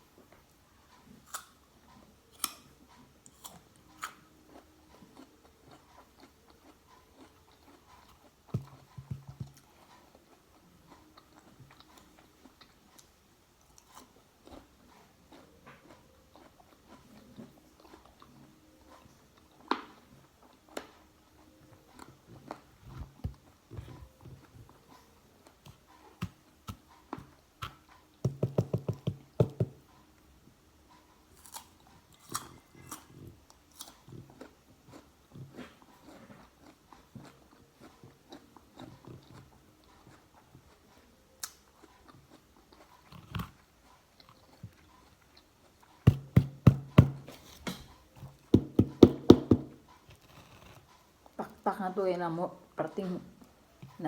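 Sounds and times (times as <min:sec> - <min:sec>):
crunchy chewing of fruit: 0:00.7 - 0:30.2, 0:31.0 - 0:51.6.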